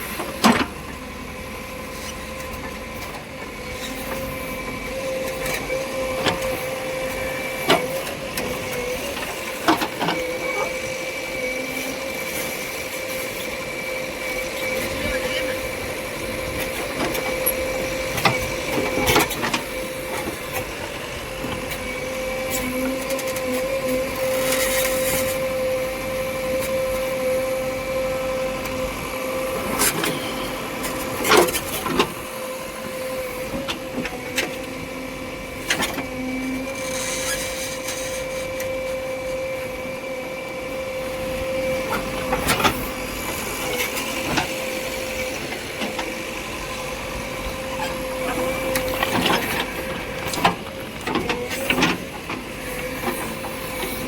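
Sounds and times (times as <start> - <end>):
machinery whining: 0.0 - 54.0.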